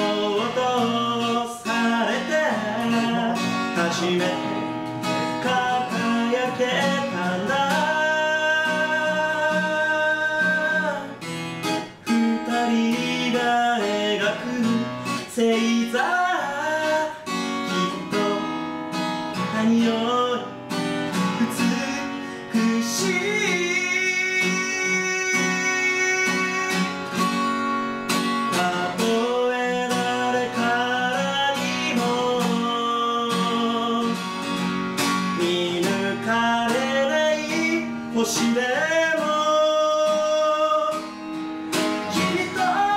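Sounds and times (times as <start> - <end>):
man singing: 0.0 - 42.9
strummed acoustic guitar: 0.0 - 42.9.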